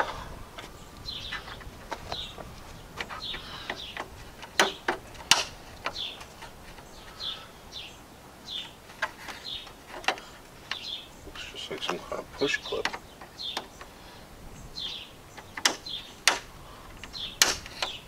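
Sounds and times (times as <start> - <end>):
small bird chirping: 0.6 - 18.0.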